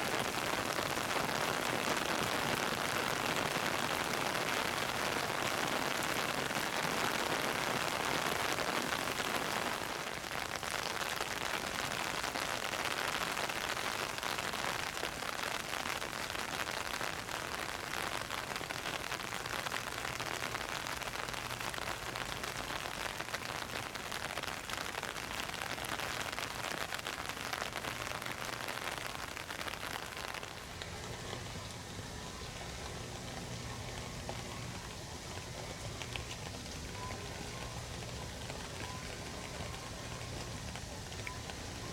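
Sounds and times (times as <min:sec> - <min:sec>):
heavy rain on hard surfaces: 0:00.0 - 0:41.9.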